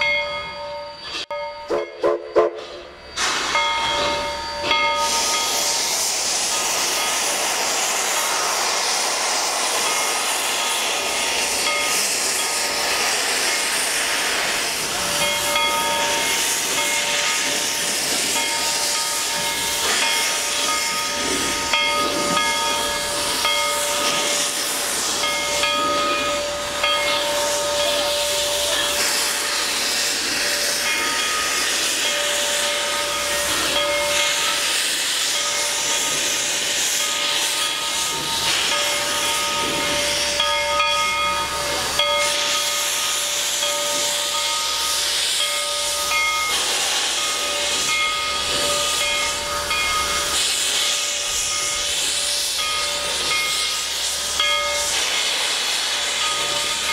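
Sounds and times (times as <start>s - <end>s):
steam hissing: 0.0s - 56.9s.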